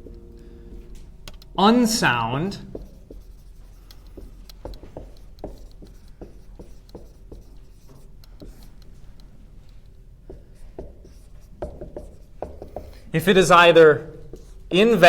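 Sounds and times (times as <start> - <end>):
writing on a board: 0.1 - 15.0.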